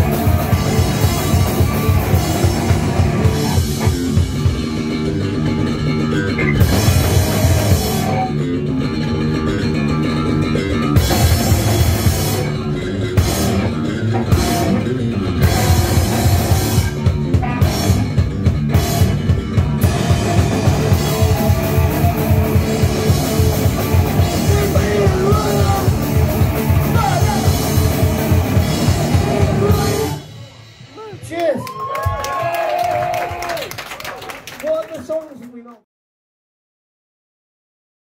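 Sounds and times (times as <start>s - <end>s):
punk band playing live: 0.0s - 31.4s.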